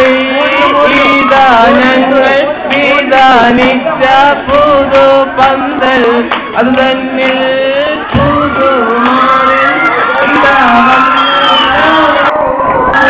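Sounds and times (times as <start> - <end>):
group of men singing: 0.0 - 12.4.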